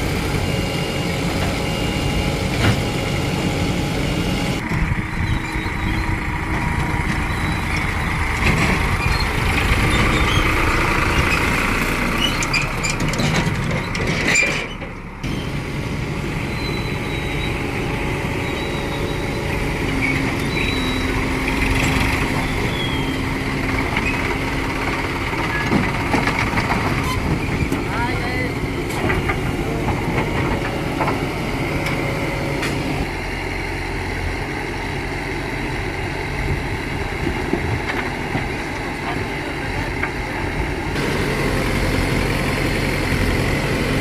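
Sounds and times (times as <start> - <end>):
backhoe diesel engine running: 0.0 - 44.0.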